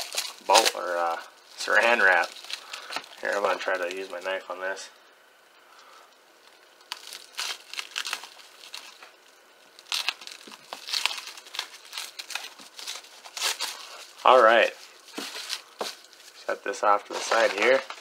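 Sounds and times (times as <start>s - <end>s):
plastic wrap crinkling and tearing: 0.0s - 4.5s, 6.4s - 18.0s.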